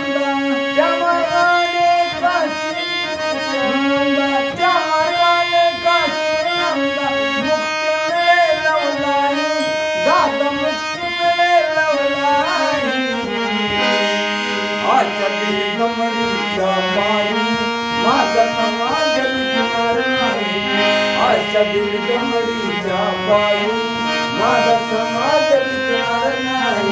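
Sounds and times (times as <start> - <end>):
harmonium melody: 0.0 - 26.9
man singing: 0.0 - 26.9.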